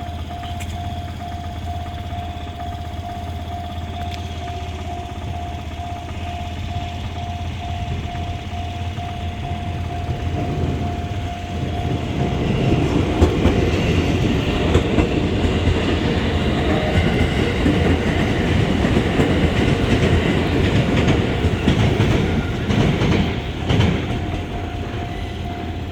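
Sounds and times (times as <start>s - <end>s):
level crossing alarm tone: 0.0s - 25.9s
train wheels clicking over rails: 0.0s - 25.9s.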